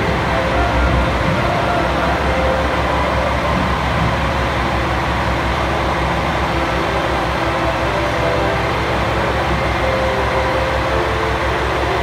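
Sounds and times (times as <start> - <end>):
train rumbling pulling away: 0.0 - 12.0.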